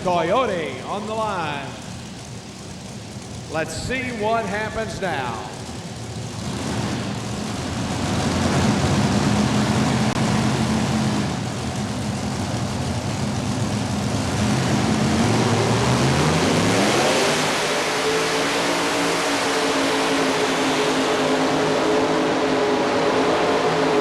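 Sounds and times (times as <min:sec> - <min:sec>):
pulling tractor engine at full throttle: 0:00.0 - 0:24.0.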